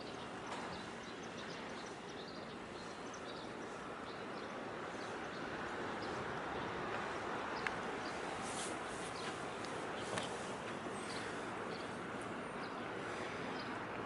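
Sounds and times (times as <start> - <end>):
harbour ambience: 0.0 - 14.0.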